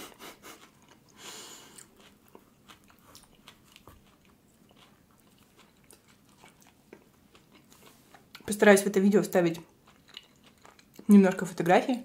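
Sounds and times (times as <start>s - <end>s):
chewing flatbread: 0.1s - 8.5s, 9.6s - 11.1s.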